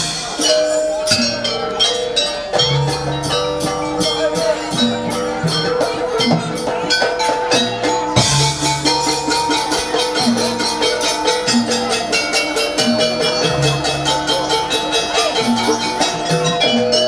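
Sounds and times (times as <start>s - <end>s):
drums beating quickly: 0.0s - 17.0s
ringing gong and metal chimes: 0.0s - 17.0s.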